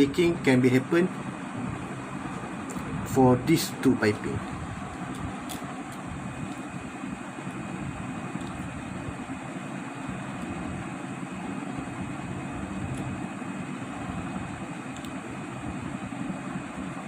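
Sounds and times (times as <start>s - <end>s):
machinery rumble with hiss: 0.0s - 17.0s.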